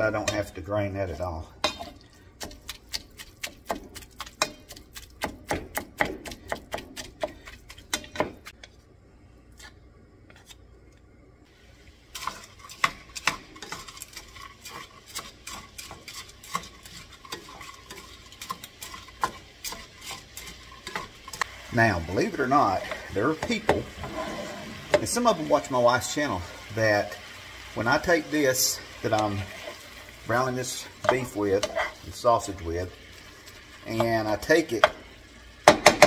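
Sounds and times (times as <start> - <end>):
meat sizzling: 0.0 - 8.2, 11.5 - 36.0.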